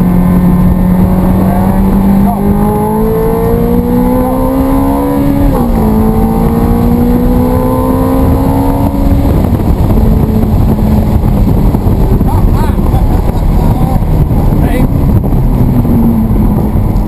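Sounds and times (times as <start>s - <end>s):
road and wind noise: 0.0s - 17.0s
sports car engine accelerating: 0.0s - 17.0s.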